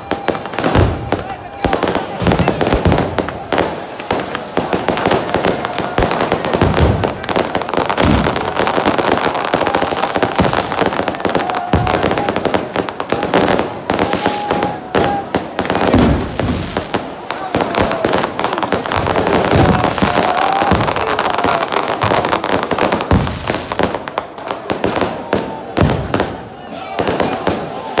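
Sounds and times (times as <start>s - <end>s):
deep firework bangs: 0.0s - 28.0s
fireworks crackling: 0.0s - 28.0s.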